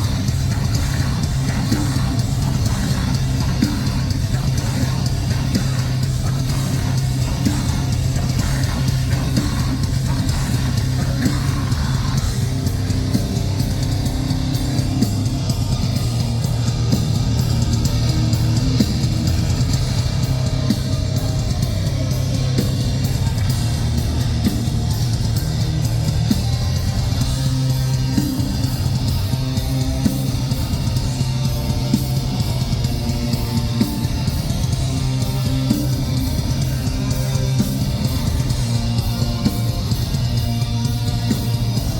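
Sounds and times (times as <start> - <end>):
distorted electric guitars: 0.0 - 41.9
fast drum kit: 0.0 - 41.9
heavy metal band playing: 0.0 - 41.9.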